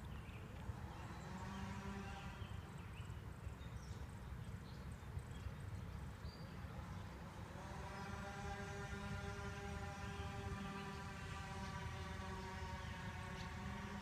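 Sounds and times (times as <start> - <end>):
constant low rumble: 0.0 - 14.0.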